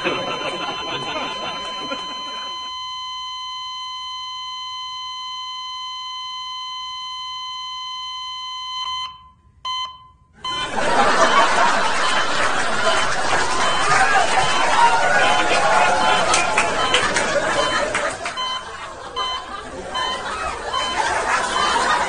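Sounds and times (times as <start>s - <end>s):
electronic alarm beep tone: 0.0s - 22.0s.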